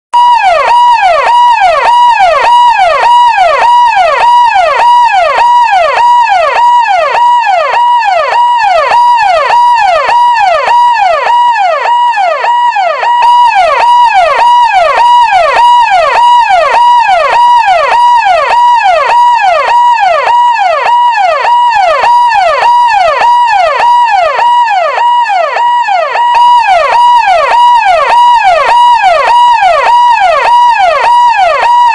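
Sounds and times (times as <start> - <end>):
electronic siren tone: 0.2 - 31.9.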